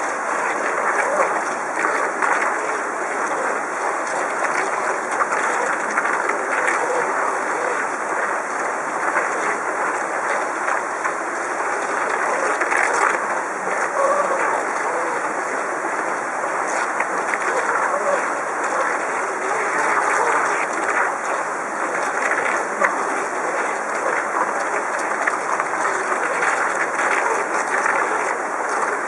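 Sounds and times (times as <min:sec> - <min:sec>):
water rushing over weir: 0:00.0 - 0:29.0.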